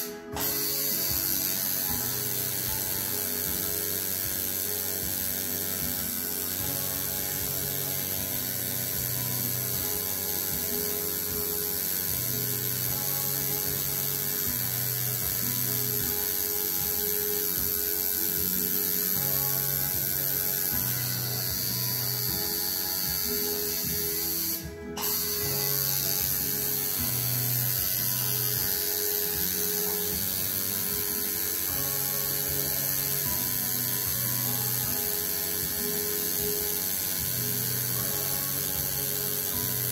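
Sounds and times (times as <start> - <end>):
tattoo machine buzzing: 0.0 - 39.9.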